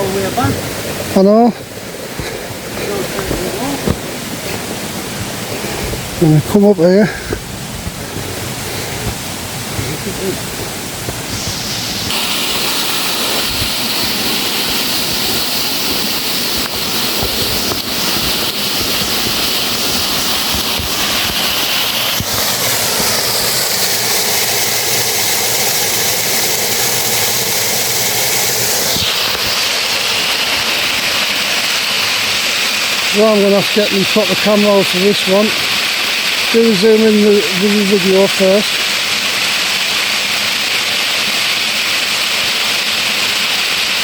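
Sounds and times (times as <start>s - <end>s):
water rushing over cascade: 0.0s - 44.0s.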